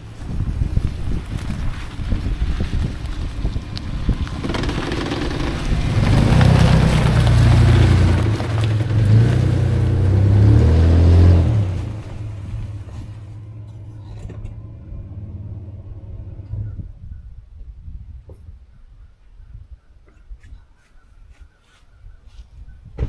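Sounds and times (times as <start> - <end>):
vehicle engine on rough road: 0.0 - 18.6
wind buffeting microphone: 0.0 - 23.0.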